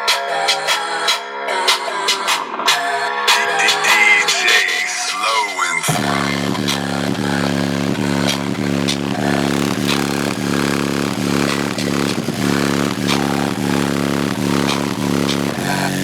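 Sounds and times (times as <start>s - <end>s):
bass-heavy music through subwoofers: 0.0s - 16.0s.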